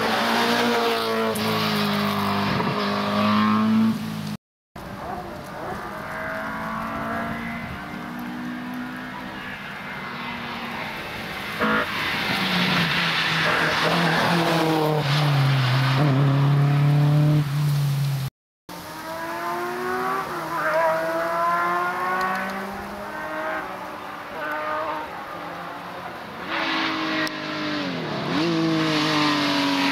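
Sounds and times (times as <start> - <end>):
rally car passing at full throttle: 0.0 - 4.2, 4.9 - 29.9.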